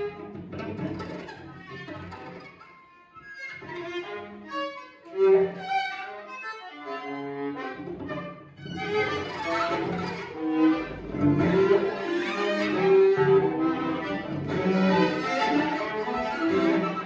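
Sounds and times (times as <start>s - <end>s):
viola and cello improvising: 0.0s - 17.0s.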